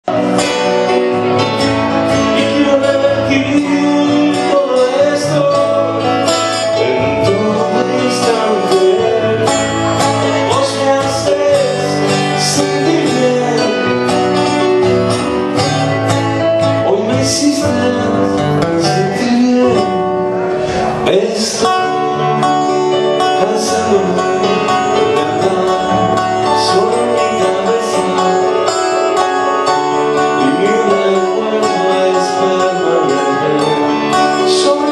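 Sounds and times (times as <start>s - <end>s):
man singing into a microphone: 0.1s - 34.9s
strummed acoustic guitar: 0.1s - 34.9s.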